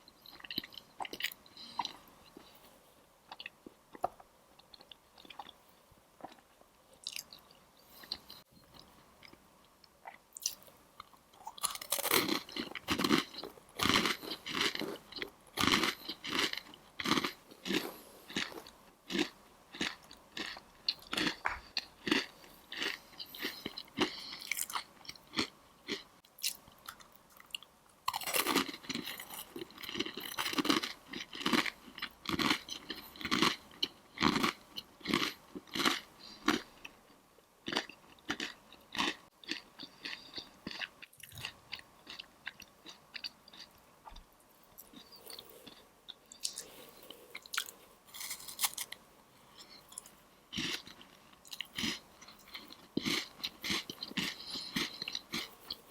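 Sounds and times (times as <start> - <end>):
quiet chewing: 6.2 - 55.9
crunching crisp pastries: 10.4 - 55.9.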